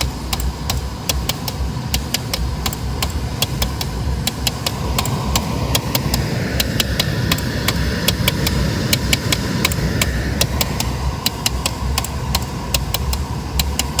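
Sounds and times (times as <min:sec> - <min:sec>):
car engine idling: 0:00.0 - 0:14.0
sharp clicking in car dashboard: 0:00.0 - 0:14.0.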